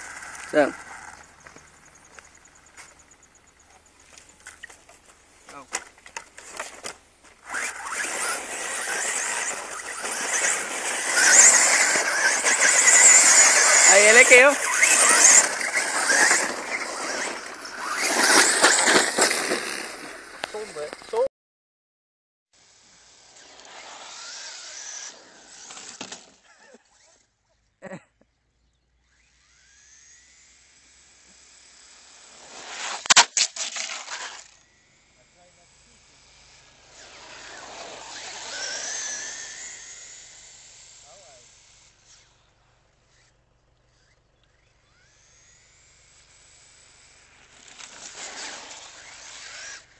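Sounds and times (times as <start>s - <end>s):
electric motor whine: 0.0s - 21.3s, 22.6s - 27.3s, 28.9s - 32.8s, 33.9s - 49.9s
tyres on loose dirt: 0.0s - 21.3s, 22.7s - 28.0s, 29.2s - 35.0s, 36.0s - 41.0s, 41.6s - 49.9s.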